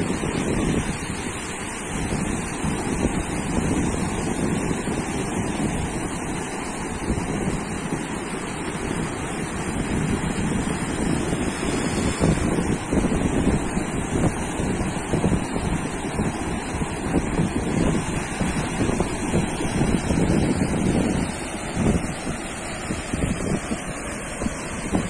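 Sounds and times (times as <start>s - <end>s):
ocean surf washing onto sand: 0.0s - 25.0s
wind on microphone: 0.0s - 25.0s.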